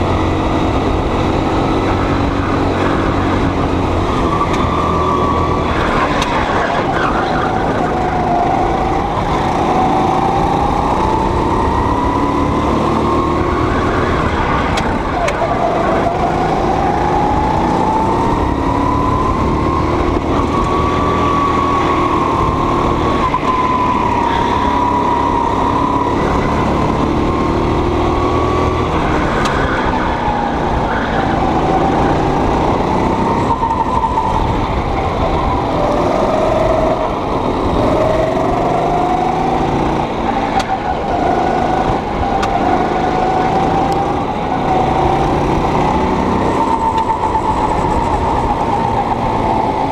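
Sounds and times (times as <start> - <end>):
go-kart engine running hard: 0.0 - 49.9.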